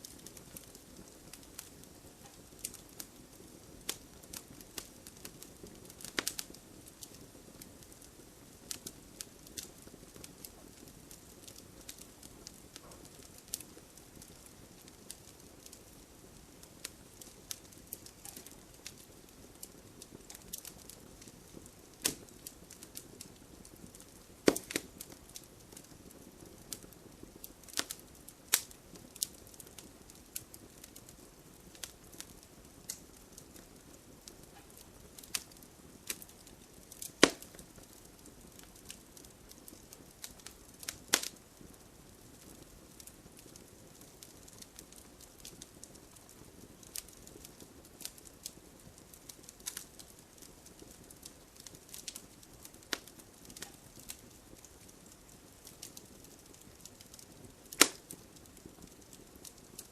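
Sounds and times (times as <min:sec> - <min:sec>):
fireplace fire crackling: 0:00.0 - 0:59.9.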